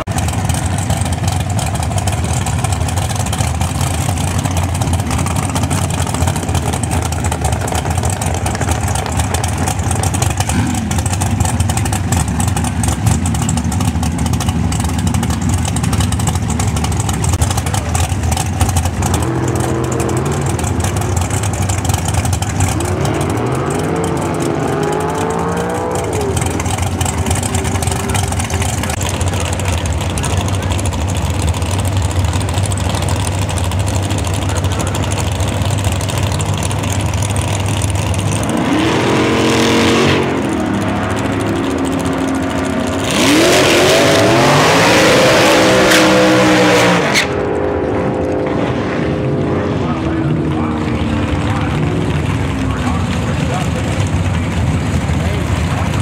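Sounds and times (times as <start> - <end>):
drag racing engines rumbling: 0.0 - 56.0
engine revving: 0.0 - 56.0.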